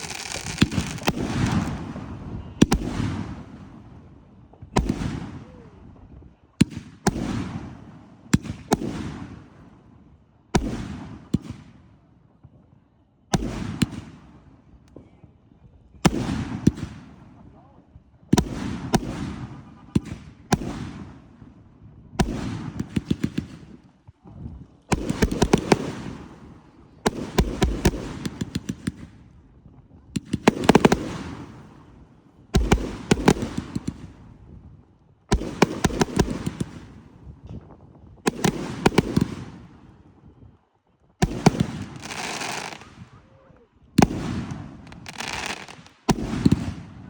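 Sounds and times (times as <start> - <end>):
fireworks banging and crackling: 0.0 - 9.7, 10.6 - 11.8, 13.4 - 15.2, 15.9 - 34.7, 35.3 - 40.0, 41.2 - 43.3, 44.0 - 47.0.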